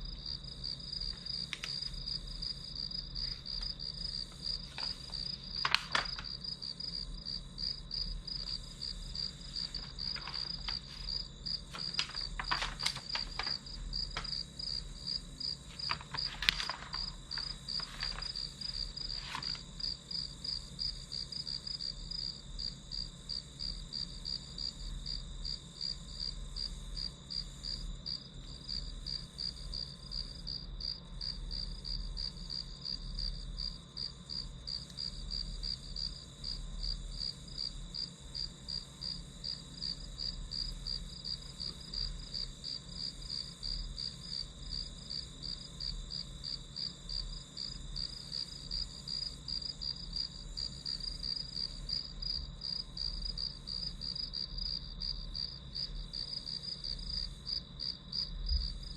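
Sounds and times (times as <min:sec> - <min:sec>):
crickets chirping: 0:00.0 - 0:58.9
faint low hum: 0:00.0 - 0:58.9.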